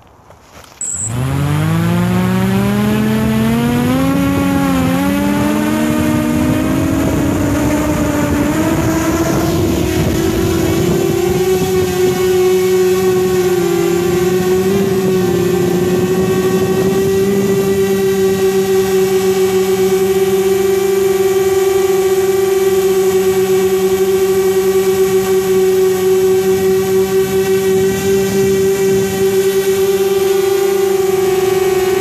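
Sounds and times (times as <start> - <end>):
drone propellers humming: 0.8 - 32.0.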